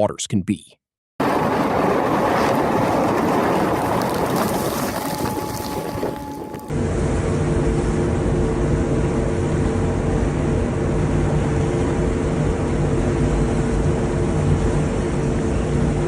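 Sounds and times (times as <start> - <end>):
steady engine drone: 1.2 - 16.0.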